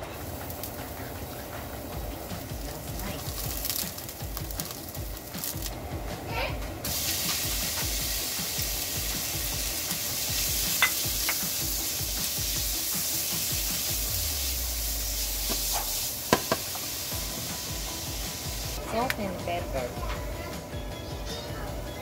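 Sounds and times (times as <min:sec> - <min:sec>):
food sizzling in frying pan: 0:00.0 - 0:05.7, 0:06.3 - 0:18.9.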